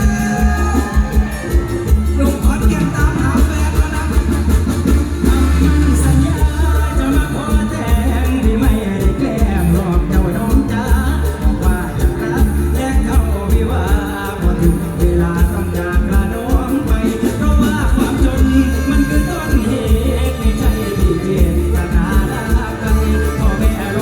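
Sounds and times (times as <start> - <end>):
bass and drum beat: 0.0 - 24.0
person singing melody: 0.0 - 24.0.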